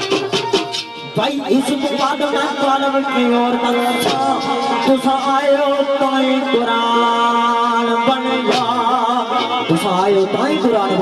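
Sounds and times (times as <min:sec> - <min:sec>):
instrumental accompaniment: 0:00.0 - 0:11.0
man singing into a microphone: 0:01.1 - 0:11.0.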